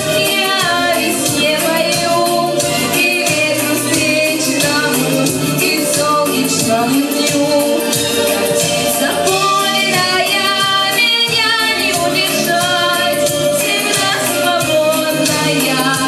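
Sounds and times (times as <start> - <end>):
instrumental backing track with beat: 0.0 - 16.0.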